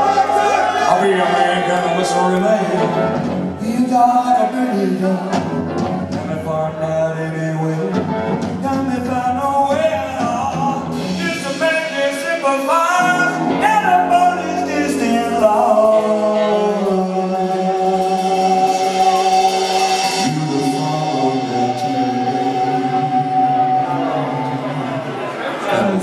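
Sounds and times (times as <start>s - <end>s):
punk rock band playing live: 0.0s - 26.0s
man singing: 0.8s - 26.0s.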